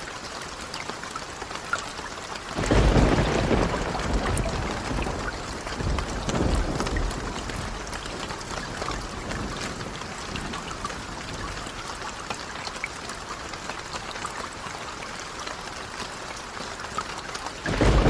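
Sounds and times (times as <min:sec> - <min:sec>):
small crackles and ticks: 0:00.0 - 0:18.0
steady rain hiss: 0:00.0 - 0:18.0.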